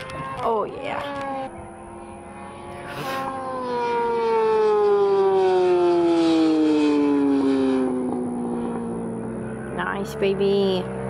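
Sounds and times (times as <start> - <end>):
motorcycle engine passing at high revs: 0.0 - 11.0.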